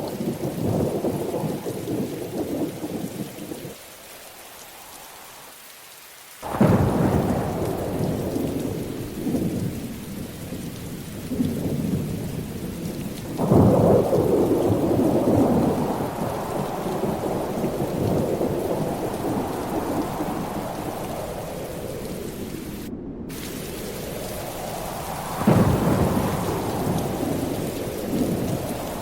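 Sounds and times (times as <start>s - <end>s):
steady hiss: 3.6s - 29.0s.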